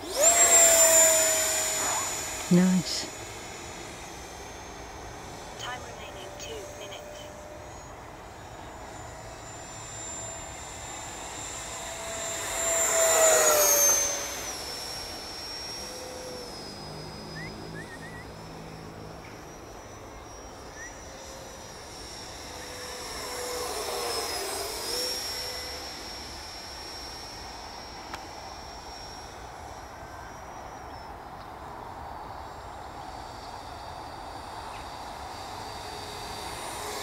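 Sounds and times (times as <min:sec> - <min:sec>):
model jet ducted fan whining: 0:00.0 - 0:37.0.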